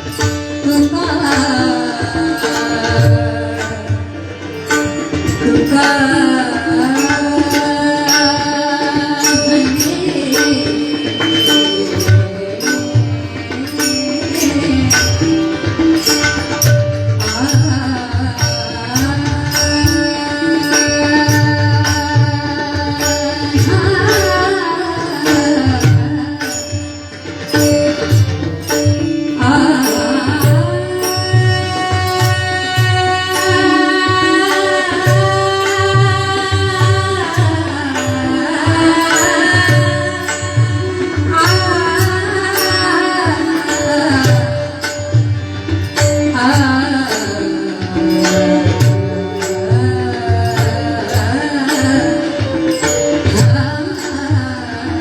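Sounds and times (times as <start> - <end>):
person singing devotional song: 0.0 - 55.0
sharp percussion strokes: 0.0 - 55.0
small cymbal beats: 0.0 - 55.0.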